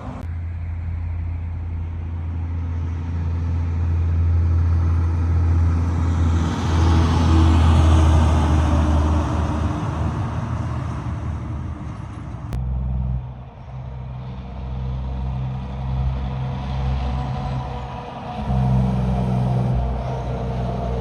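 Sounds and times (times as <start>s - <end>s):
truck engine running: 0.0s - 21.0s
truck rumbling past: 0.0s - 21.0s.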